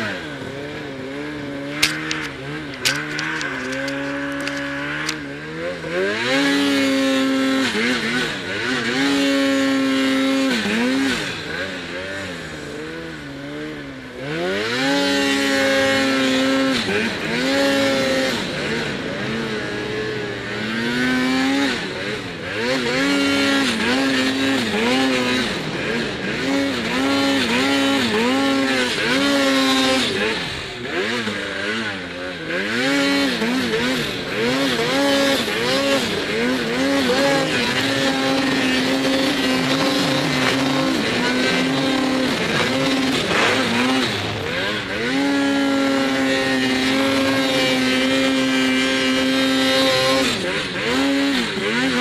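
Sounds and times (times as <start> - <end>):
snowmobile engine revving: 0.0 - 52.0.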